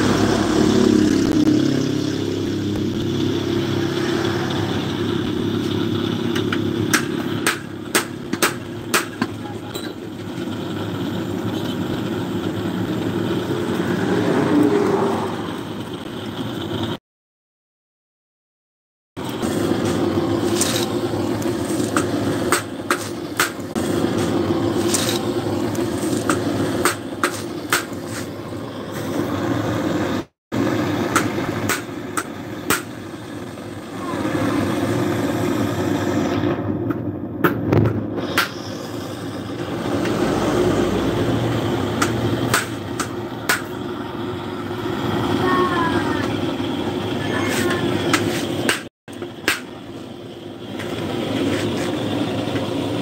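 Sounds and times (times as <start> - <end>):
steady mechanical drone: 0.0 - 17.0, 19.2 - 53.0.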